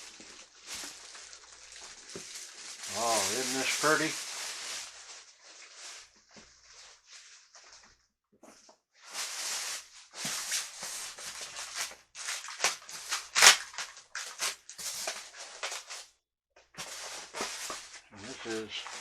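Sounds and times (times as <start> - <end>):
packaging rustling and crinkling: 0.0 - 8.0, 9.0 - 19.0.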